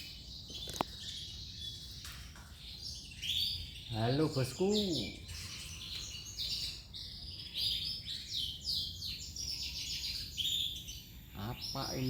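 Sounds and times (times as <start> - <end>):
canary singing chirps and trills: 0.0 - 12.0.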